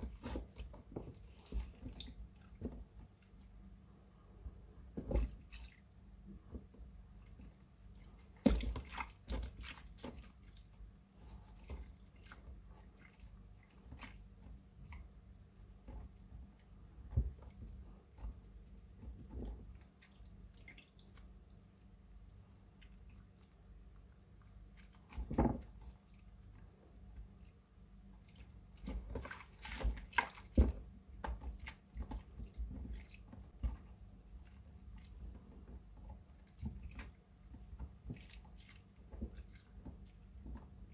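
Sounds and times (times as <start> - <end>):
wet soap squishing: 0.0 - 40.9.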